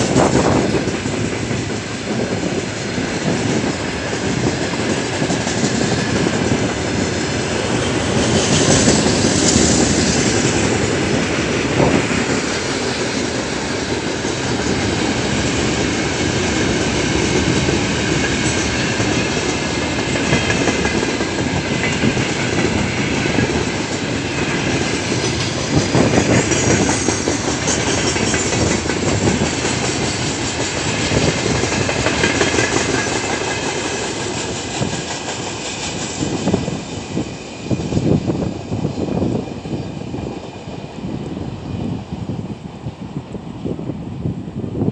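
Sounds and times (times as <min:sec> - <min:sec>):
freight train wheels rumbling: 0:00.0 - 0:44.9.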